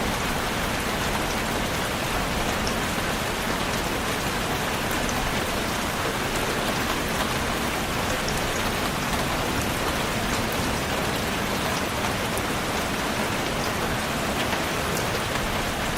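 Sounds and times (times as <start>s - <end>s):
steady rainfall hissing: 0.0s - 15.9s.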